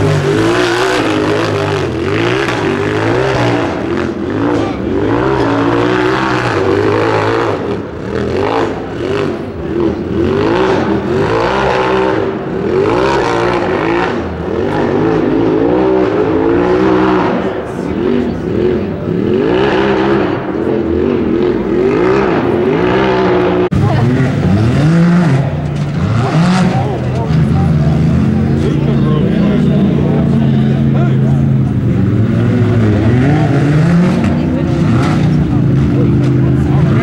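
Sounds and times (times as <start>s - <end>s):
engine revving hard: 0.0s - 37.0s.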